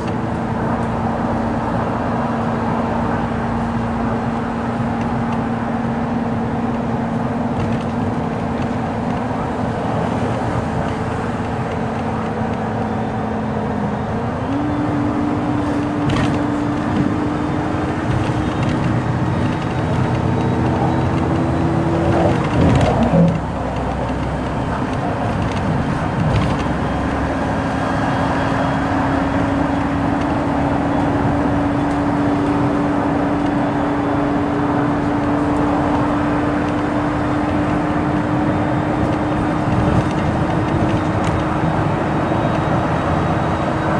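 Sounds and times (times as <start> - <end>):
car engine hum: 0.0 - 43.9.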